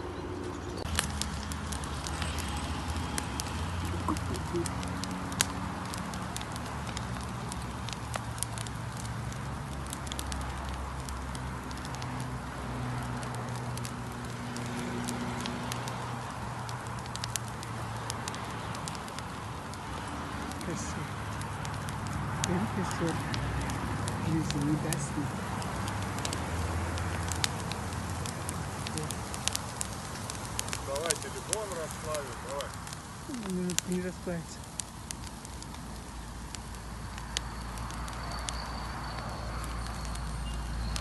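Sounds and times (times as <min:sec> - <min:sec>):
fire crackling and popping: 0:00.0 - 0:41.0
flames rushing: 0:00.2 - 0:41.0.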